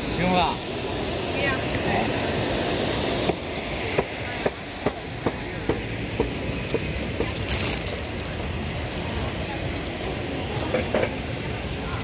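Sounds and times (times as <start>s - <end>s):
outdoor background din: 0.0s - 12.0s.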